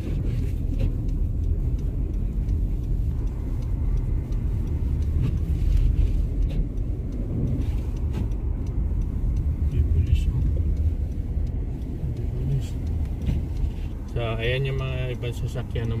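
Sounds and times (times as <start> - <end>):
car driving on snow: 0.0 - 16.0
faint ticks: 0.0 - 16.0.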